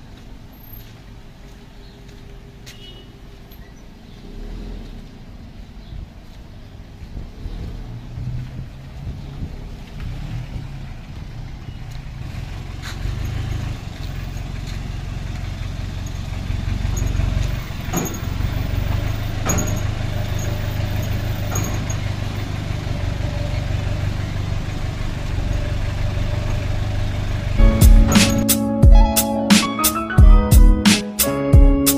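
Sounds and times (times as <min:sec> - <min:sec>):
vehicle engine rumbling: 0:00.0 - 0:31.8.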